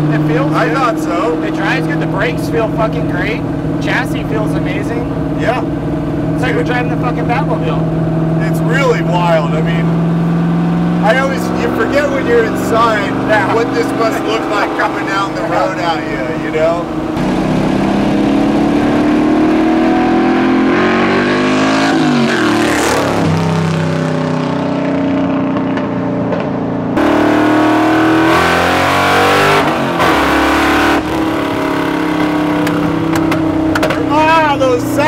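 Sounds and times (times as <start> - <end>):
vee-eight engine under throttle: 0.0 - 35.0.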